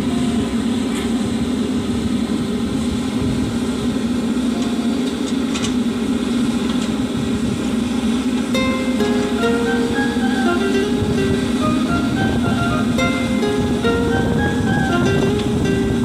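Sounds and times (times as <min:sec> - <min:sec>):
diesel engine low drone: 0:00.0 - 0:16.0.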